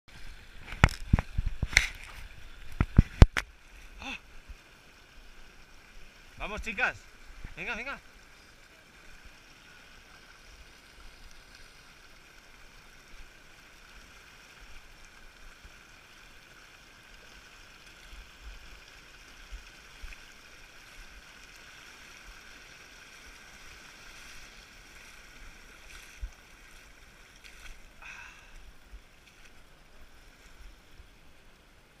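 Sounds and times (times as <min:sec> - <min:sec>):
stream running over gravel: 0:00.1 - 0:32.0.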